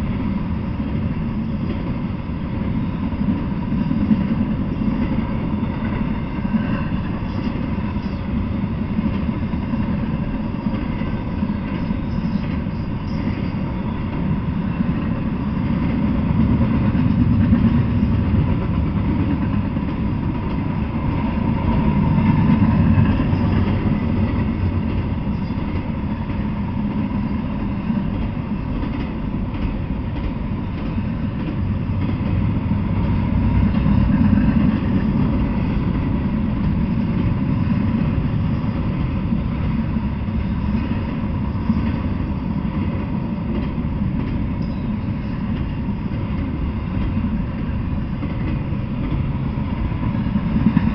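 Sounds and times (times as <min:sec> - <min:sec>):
freight train rumbling past: 0:00.0 - 0:50.9.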